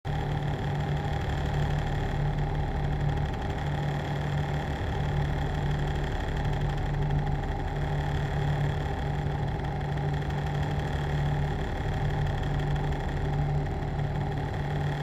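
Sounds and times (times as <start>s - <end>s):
steady whining tones: 0.1s - 15.0s.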